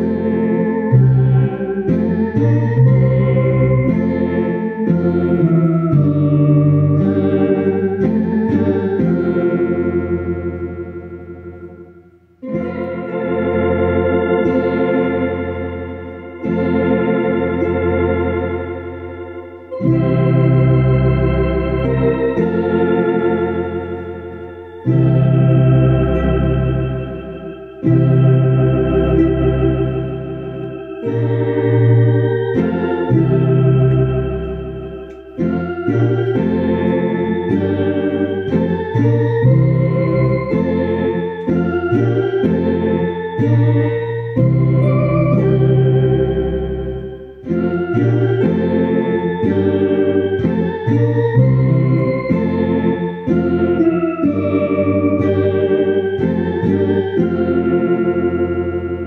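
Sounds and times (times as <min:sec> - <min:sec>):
electronic organ playing hymn: 0:00.0 - 0:59.0.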